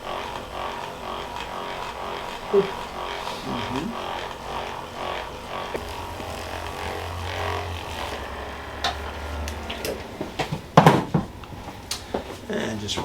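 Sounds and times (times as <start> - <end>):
small electric motor humming: 0.0 - 12.9.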